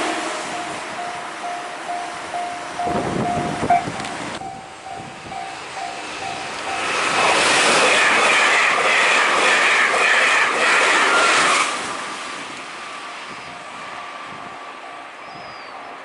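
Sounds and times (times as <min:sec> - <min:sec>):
train passing with clatter: 0:00.0 - 0:16.0.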